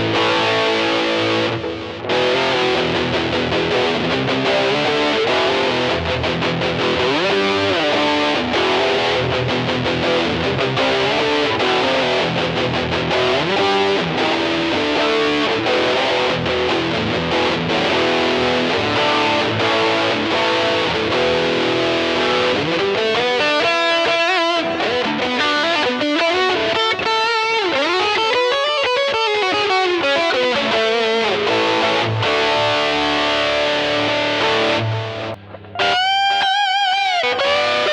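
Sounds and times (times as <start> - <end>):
distorted electric guitar: 0.0 - 37.9.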